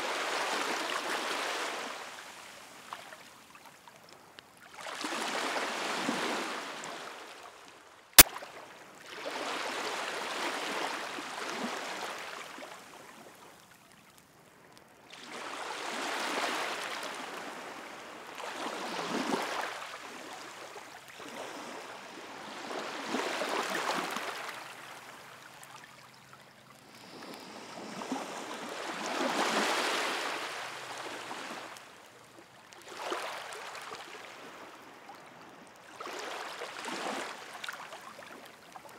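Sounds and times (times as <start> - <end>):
ocean waves washing onto shore: 4.7 - 26.1, 26.7 - 38.9.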